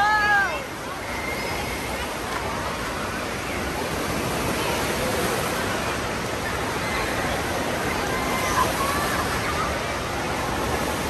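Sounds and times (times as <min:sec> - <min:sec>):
faint voices: 0:00.0 - 0:11.0.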